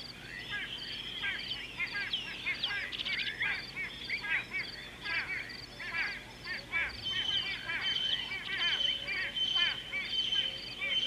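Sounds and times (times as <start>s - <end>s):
wild birds calling: 0.0s - 11.0s.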